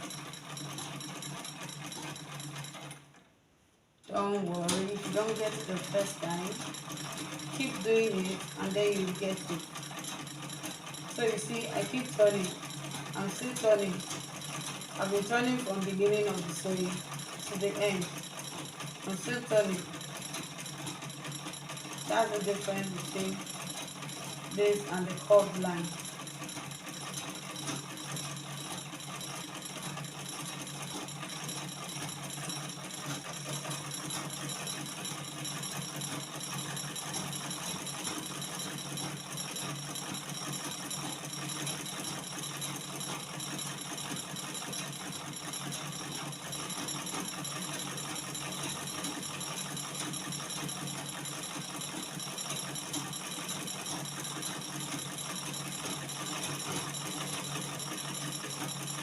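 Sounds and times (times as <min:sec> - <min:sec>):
sewing machine clattering: 0:00.0 - 0:03.3, 0:04.0 - 0:59.0.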